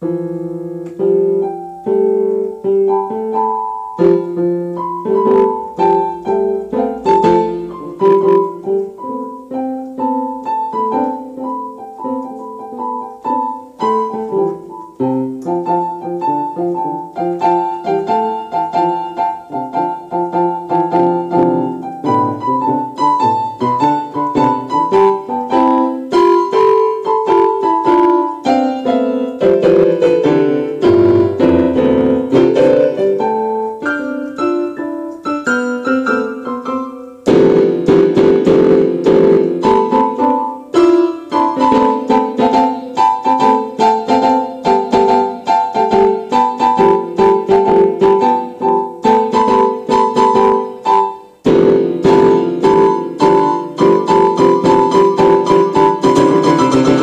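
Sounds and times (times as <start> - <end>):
brisk piano melody: 0.0 - 57.0.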